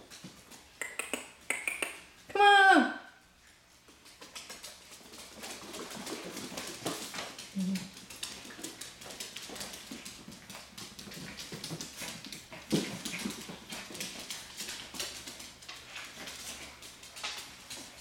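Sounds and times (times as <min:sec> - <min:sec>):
dog claws clicking on wood floor: 0:00.0 - 0:02.1, 0:03.9 - 0:18.0.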